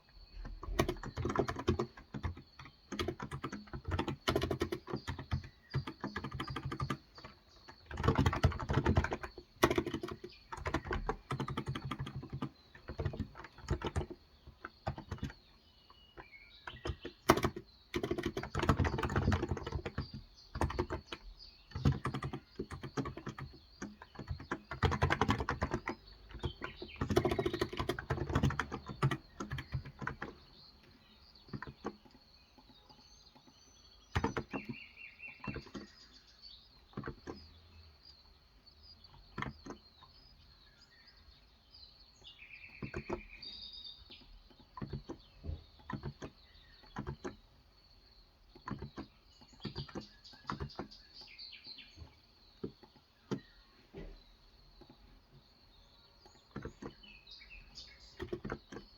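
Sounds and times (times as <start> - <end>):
faint bird chirps: 0.0 - 58.9
keyboard typing: 0.4 - 15.6, 16.2 - 36.2, 36.8 - 37.5, 39.0 - 40.1, 42.7 - 47.8, 48.5 - 51.2, 56.2 - 58.9.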